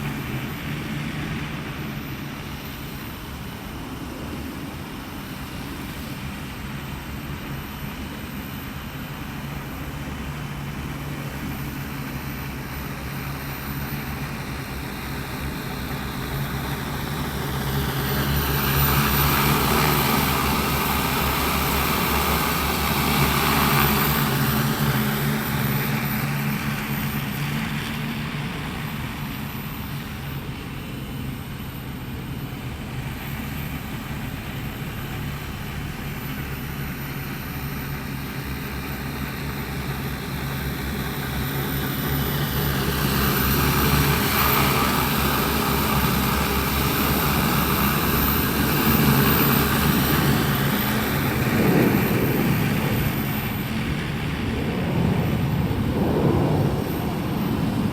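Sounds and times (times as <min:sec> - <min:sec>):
drone rotors humming: 0:00.0 - 0:57.9.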